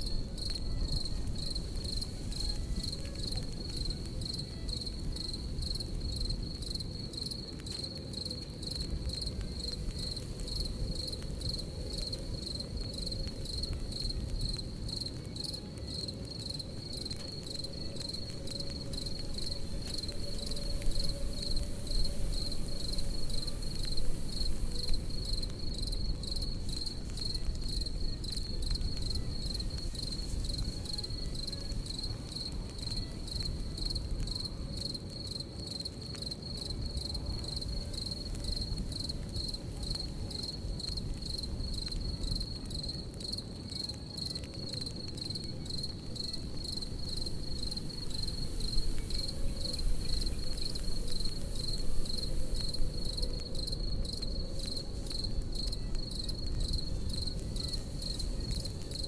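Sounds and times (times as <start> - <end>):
campfire crackling: 0.0 - 59.0
crickets chirping: 0.0 - 59.0.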